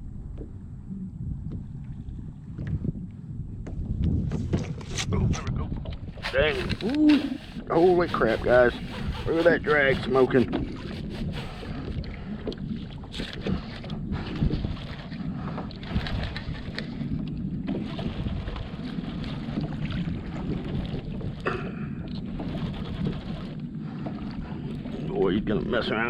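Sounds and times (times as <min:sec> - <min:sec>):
wind buffeting microphone: 0:00.0 - 0:26.0
water slapping against kayak hull: 0:03.6 - 0:25.1.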